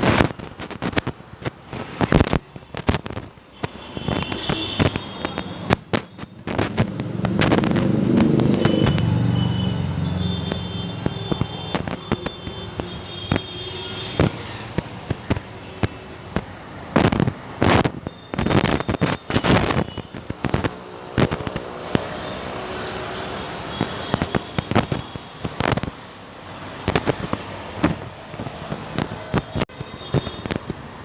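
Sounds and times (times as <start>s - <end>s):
firecrackers popping and crackling: 0.0s - 31.0s.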